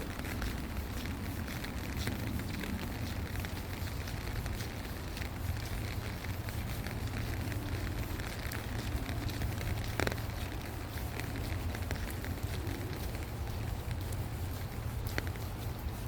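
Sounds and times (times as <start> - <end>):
rain patter: 0.0 - 16.0
steady low rumble: 0.0 - 16.0.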